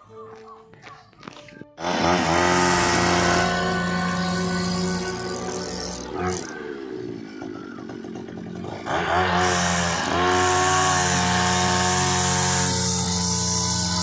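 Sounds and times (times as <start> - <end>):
chainsaw revving: 1.8 - 14.0.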